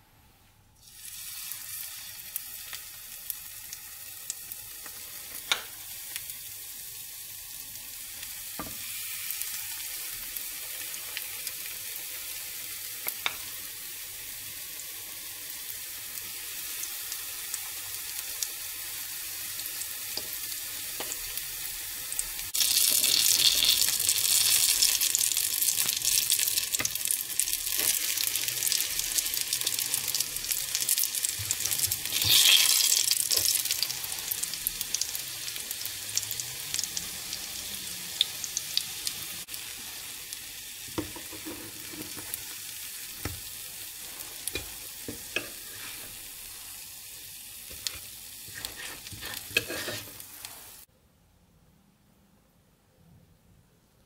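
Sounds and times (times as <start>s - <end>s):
batter sizzling in hot oil: 0.8s - 50.9s.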